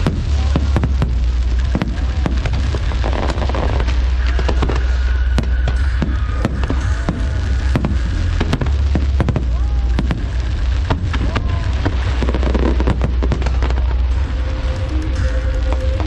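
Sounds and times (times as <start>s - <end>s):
fireworks cracks and bangs: 0.0s - 16.0s
low rumble: 0.0s - 16.0s.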